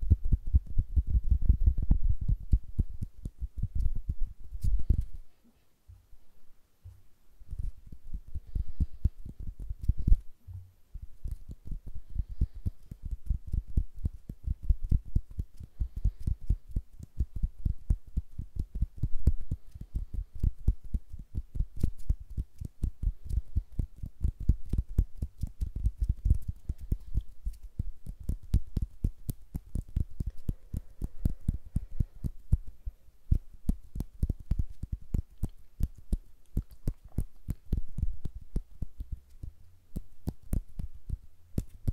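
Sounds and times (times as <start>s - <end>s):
fingers fluttering soft thumps: 6.9s - 41.9s.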